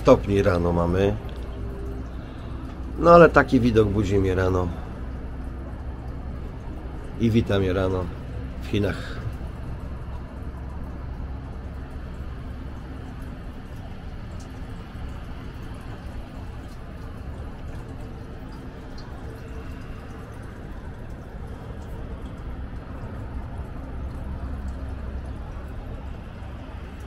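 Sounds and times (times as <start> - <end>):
low city rumble: 0.0 - 27.0.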